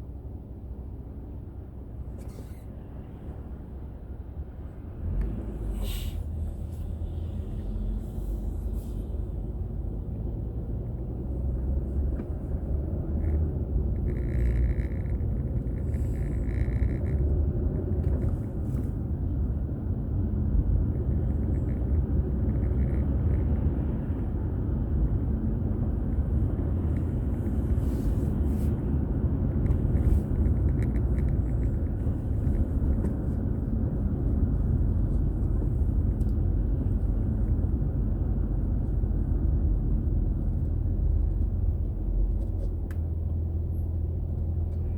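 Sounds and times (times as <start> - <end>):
car road and engine noise: 0.0 - 44.9.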